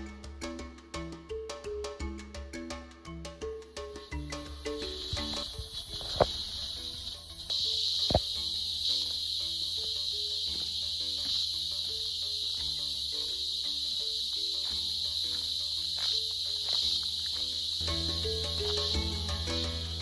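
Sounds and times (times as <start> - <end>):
soft background music: 0.0 - 20.0
insect chorus droning: 3.7 - 20.0.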